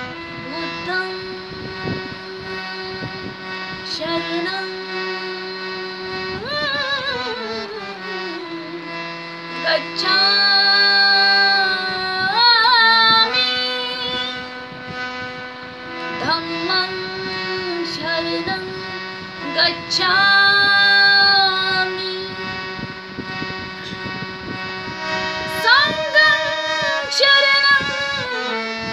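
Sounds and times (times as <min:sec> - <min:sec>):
held instrumental backing notes: 0:00.0 - 0:28.9
woman singing devotional song: 0:00.0 - 0:28.9.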